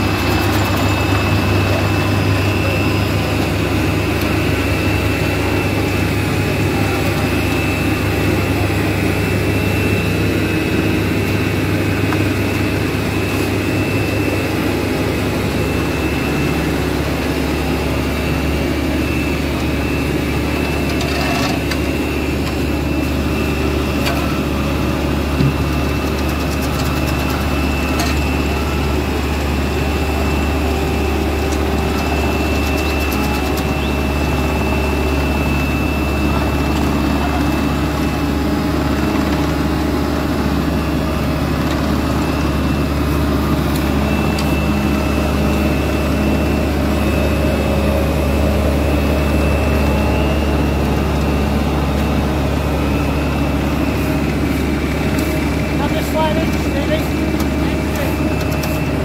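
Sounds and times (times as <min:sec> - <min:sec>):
diesel engine running: 0:00.0 - 0:59.0
high whine: 0:00.0 - 0:59.0.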